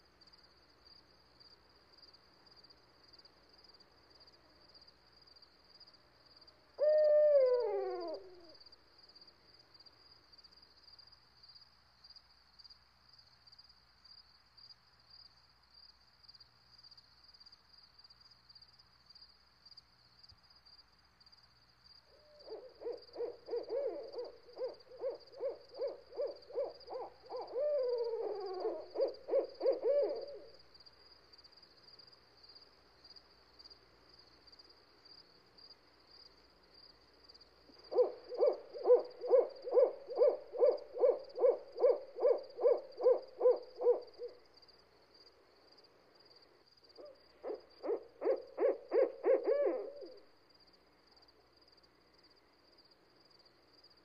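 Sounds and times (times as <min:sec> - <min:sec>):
high insect trill: 0:01.4 - 0:54.0.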